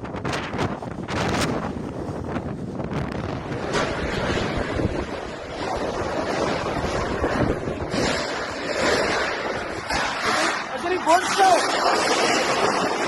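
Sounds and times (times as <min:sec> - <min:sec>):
storm wind gusting: 0:00.0 - 0:13.0
wind buffeting microphone: 0:00.0 - 0:13.0.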